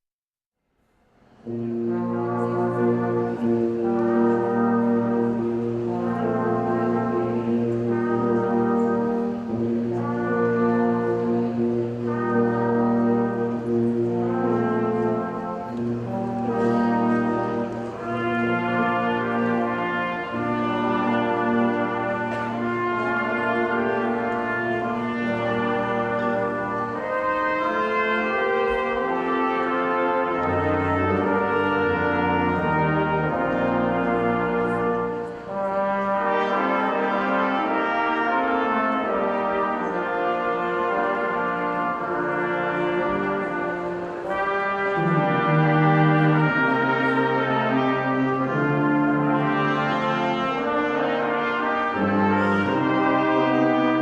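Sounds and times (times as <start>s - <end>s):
brass quintet playing: 1.0s - 54.0s.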